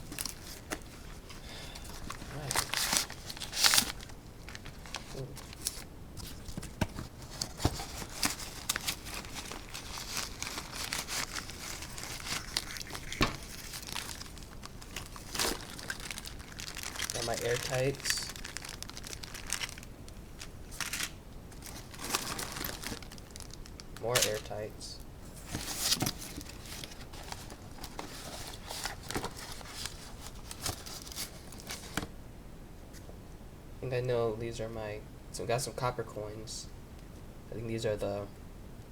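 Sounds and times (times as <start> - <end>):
packing material crinkling and tearing: 0.0 - 24.7, 25.3 - 32.1.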